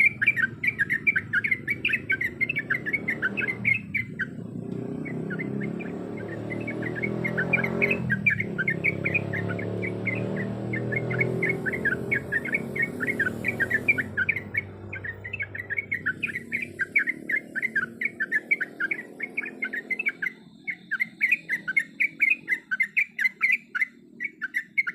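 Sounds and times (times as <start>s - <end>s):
bulbul chattering song: 0.0s - 24.9s.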